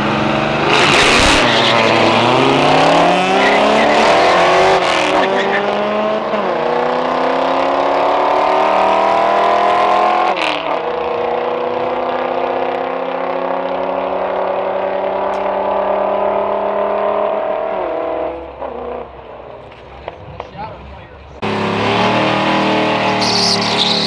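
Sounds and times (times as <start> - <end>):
car engine at full throttle: 0.0 - 20.2, 21.3 - 24.0.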